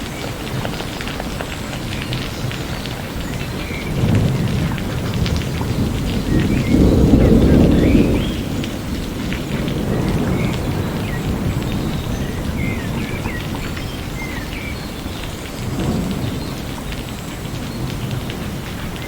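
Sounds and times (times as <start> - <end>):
low rolling thunder: 0.0 - 19.0
steady rain: 0.0 - 19.0.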